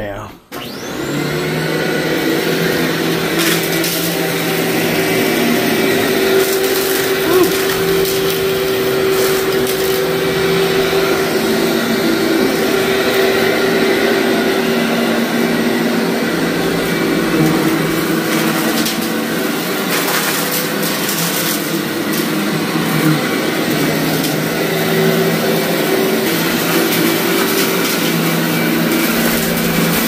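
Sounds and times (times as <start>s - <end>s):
vacuum cleaner running: 0.5s - 30.0s
grit crunching in vacuum: 2.1s - 30.0s.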